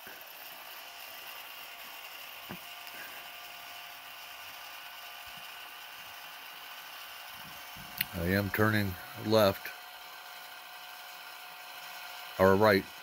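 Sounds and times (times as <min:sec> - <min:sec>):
antenna rotator whirring: 0:00.0 - 0:13.0.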